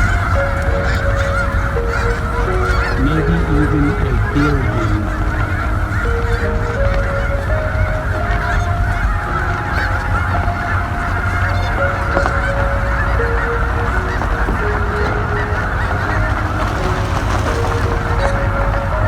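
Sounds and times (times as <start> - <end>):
flock of geese honking: 0.0 - 19.0.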